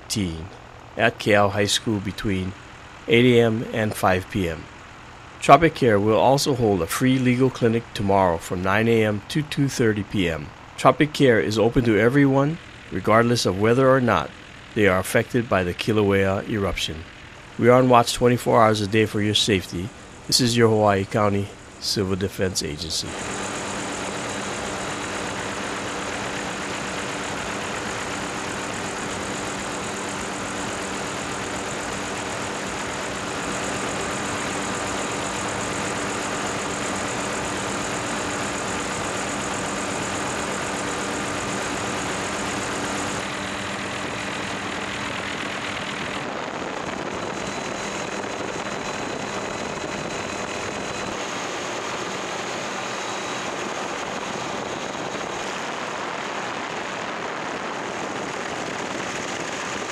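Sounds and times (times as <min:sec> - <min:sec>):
engine drone: 0:00.0 - 0:59.9.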